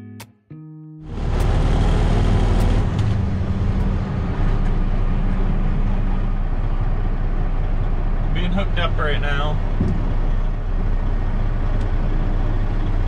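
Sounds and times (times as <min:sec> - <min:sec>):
heavy vehicle engine running: 0:01.1 - 0:13.0.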